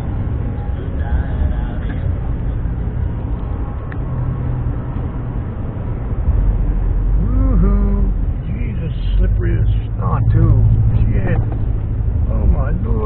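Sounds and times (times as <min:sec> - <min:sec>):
car engine hum: 0:00.0 - 0:13.0.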